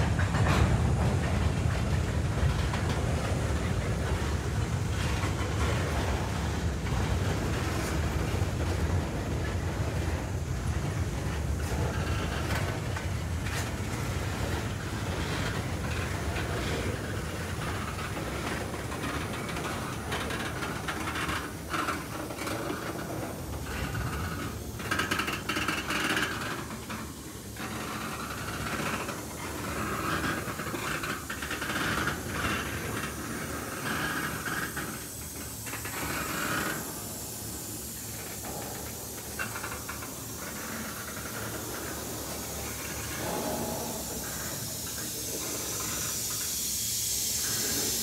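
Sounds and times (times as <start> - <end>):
rushing hiss: 0.0 - 48.0
train wheels rumbling over rail joints: 0.0 - 48.0.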